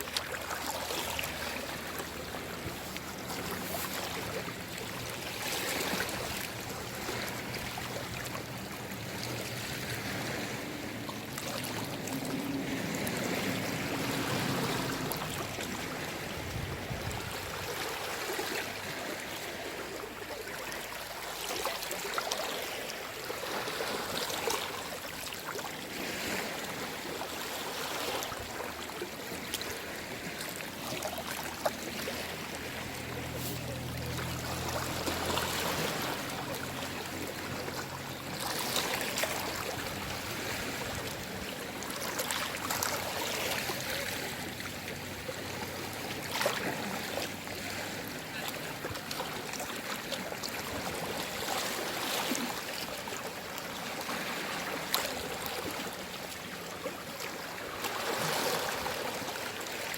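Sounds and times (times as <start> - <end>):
small sea waves washing: 0.0 - 59.9.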